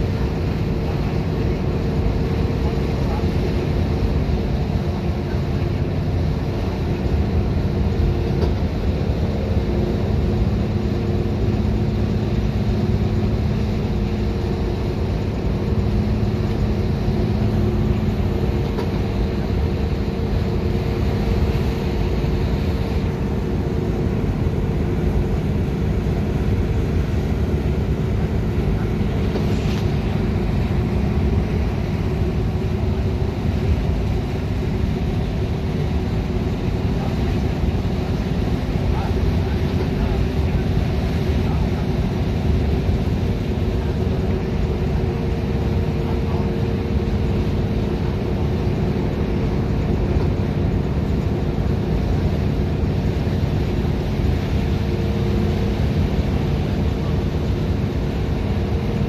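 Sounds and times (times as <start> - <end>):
tyre and road rumble: 0.0 - 57.5
bus engine drone: 0.0 - 59.0.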